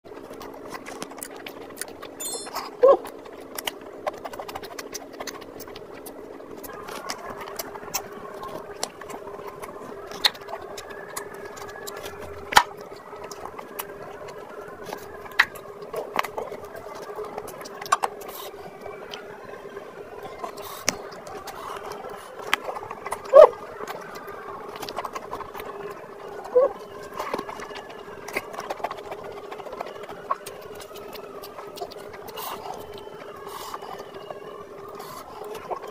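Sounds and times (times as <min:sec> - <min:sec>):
wet chewing and lip smacks: 0:00.2 - 0:19.3, 0:20.2 - 0:35.9.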